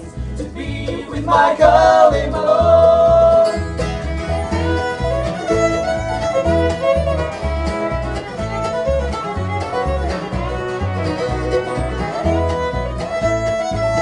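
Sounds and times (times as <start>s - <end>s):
banjo: 0.0s - 14.0s
bass notes: 0.0s - 14.0s
fiddle melody: 0.0s - 14.0s
guitar: 0.0s - 14.0s.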